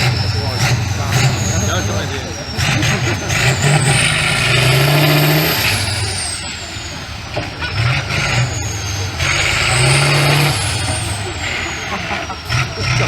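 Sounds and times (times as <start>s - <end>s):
high turbo whistle: 0.0s - 12.3s
diesel engine revving hard: 0.0s - 13.0s.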